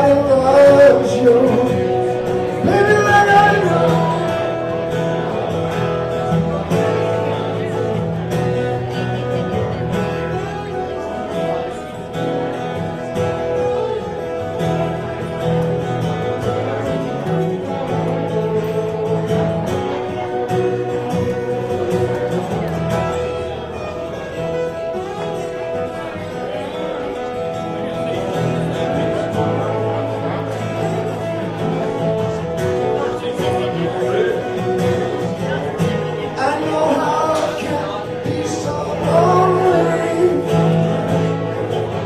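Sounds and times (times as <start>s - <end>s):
acoustic guitar strumming: 0.0s - 42.0s
held lead melody: 0.0s - 42.0s.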